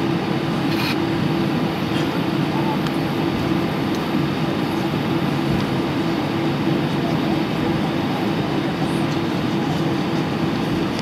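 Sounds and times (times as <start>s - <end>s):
aircraft engine drone: 0.0s - 11.0s
constant low hum: 0.0s - 11.0s.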